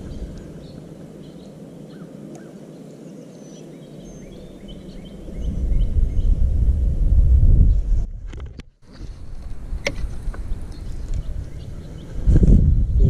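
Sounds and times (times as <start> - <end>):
wind buffeting microphone: 0.0 - 2.4, 3.8 - 13.0
birds chirping: 0.0 - 6.6, 8.8 - 13.0.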